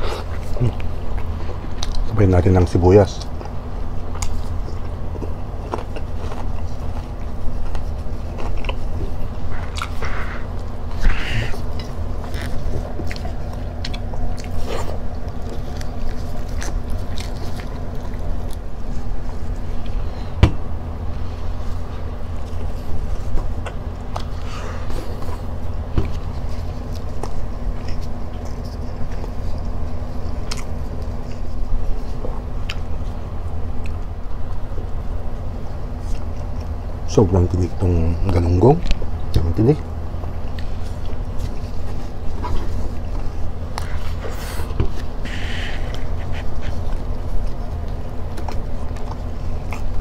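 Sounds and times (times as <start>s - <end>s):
person chewing and biting: 0.0s - 2.1s, 3.2s - 36.9s, 40.2s - 50.0s
steady low hum: 0.0s - 50.0s.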